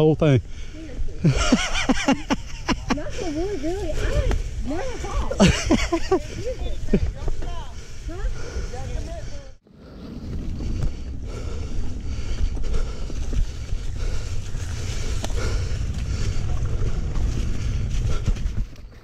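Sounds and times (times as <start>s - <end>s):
tyres on dirt and leaves: 0.2s - 19.0s
wind rumble on microphone: 0.5s - 19.0s.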